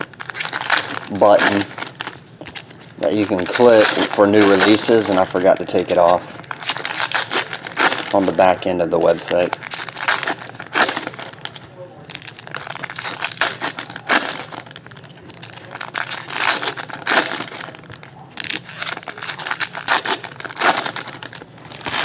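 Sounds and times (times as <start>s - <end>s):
wrappers crinkling and tearing: 0.0s - 22.0s.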